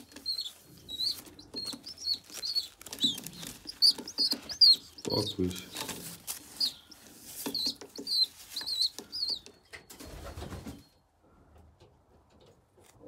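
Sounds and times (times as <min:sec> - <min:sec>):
pigeon squabs squeaking: 0:00.0 - 0:10.8
rustling: 0:00.0 - 0:11.0.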